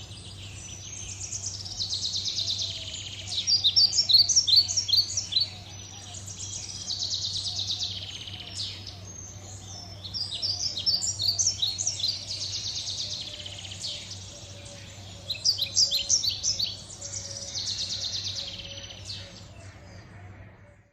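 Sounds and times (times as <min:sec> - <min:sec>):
small birds chirping: 0:00.0 - 0:20.1
steady low hum: 0:00.0 - 0:20.9.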